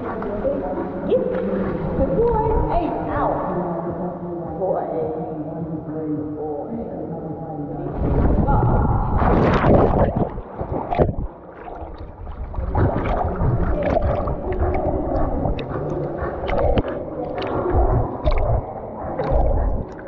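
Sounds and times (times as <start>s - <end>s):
water sloshing and gurgling: 0.0s - 3.8s, 7.7s - 20.0s.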